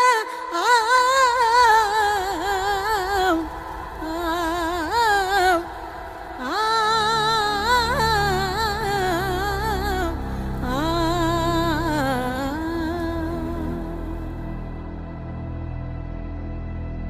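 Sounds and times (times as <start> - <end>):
woman singing folk melody: 0.0 - 14.5
low sustained instrumental accompaniment: 0.4 - 17.0.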